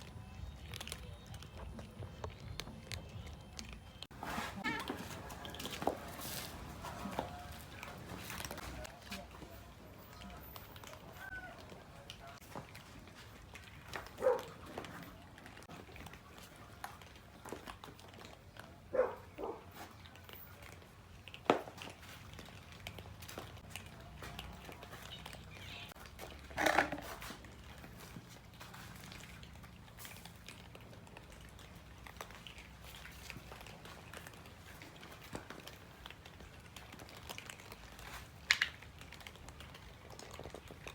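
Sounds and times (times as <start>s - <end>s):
cats chewing: 0.0s - 40.9s.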